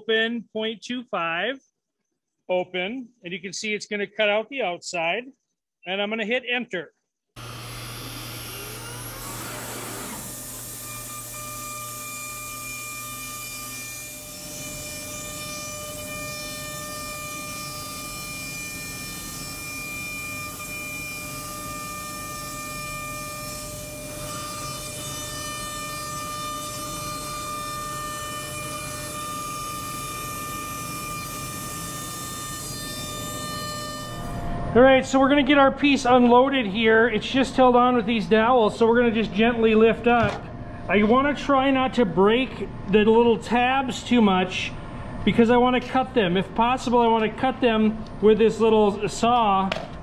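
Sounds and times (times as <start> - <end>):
router spindle high whine: 7.4 - 49.5.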